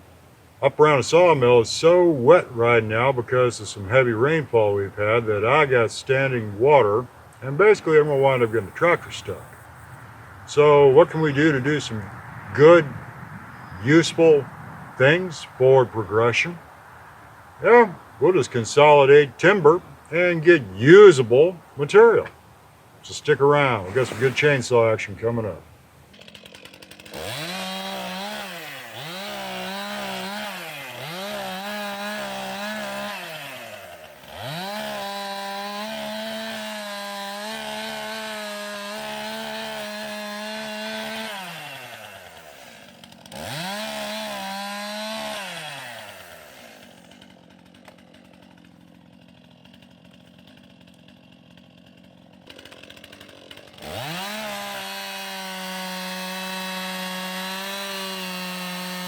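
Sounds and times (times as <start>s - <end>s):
chainsaw revving: 3.7s - 16.7s, 23.0s - 59.0s.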